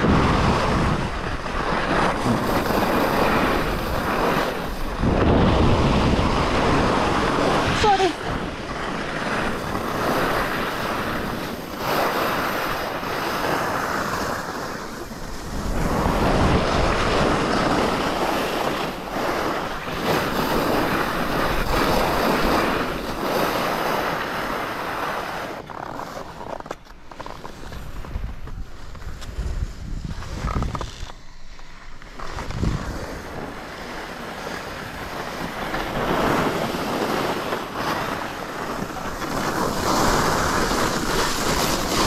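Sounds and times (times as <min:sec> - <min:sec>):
wind on microphone: 0:00.0 - 0:26.6, 0:27.4 - 0:42.0
skis scraping over snow: 0:00.0 - 0:42.0.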